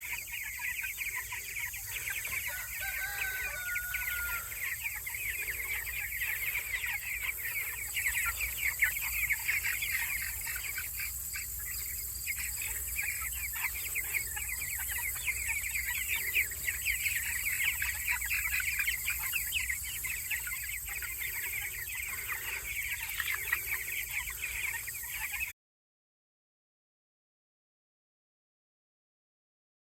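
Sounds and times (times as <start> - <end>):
poultry chirping and clucking: 0.0 - 25.5.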